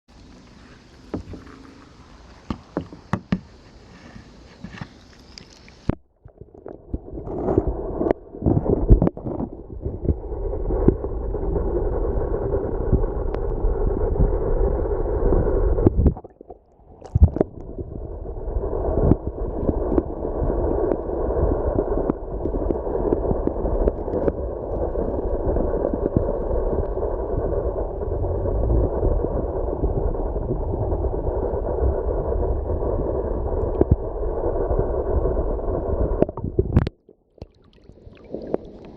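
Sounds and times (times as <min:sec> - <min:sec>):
muffled underwater rushing: 0:00.1 - 0:38.9.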